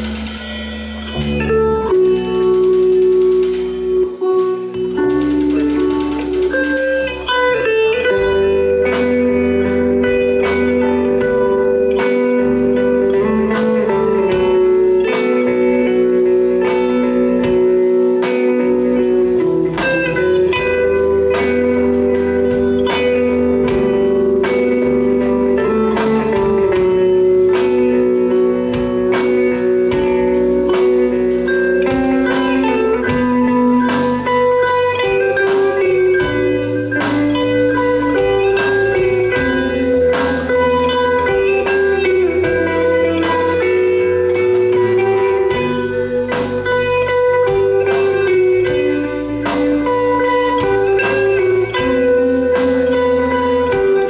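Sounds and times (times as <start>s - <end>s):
held electric guitar notes: 0.0s - 54.0s
rock band playing: 0.0s - 54.0s.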